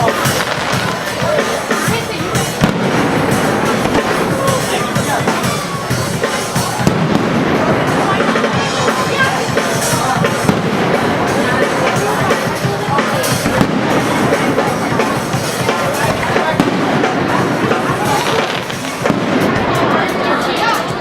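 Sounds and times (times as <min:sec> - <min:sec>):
fireworks bangs and crackles: 0:00.0 - 0:21.0
music: 0:00.0 - 0:21.0
voices: 0:00.0 - 0:21.0.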